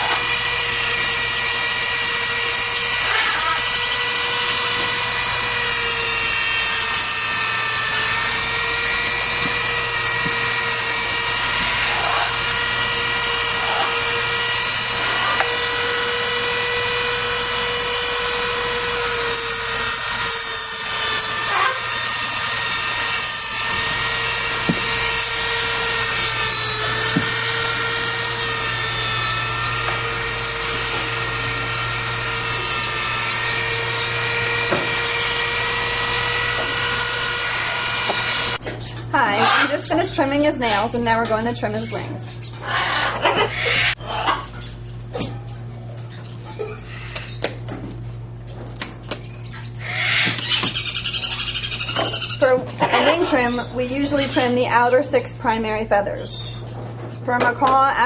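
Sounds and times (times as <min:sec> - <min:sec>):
nail grinder whining: 0:00.0 - 0:40.8, 0:42.4 - 0:44.0, 0:49.8 - 0:54.6.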